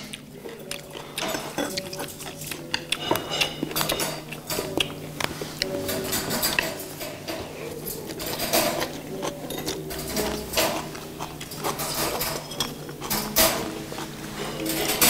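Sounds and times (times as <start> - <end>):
chewing and mouth noises: 0.0 - 15.0
chopsticks clicking on plates: 0.0 - 15.0.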